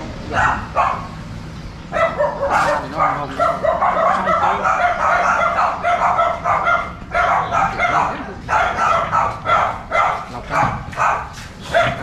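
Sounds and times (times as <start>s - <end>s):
dog barking: 0.3s - 1.2s, 1.9s - 12.0s.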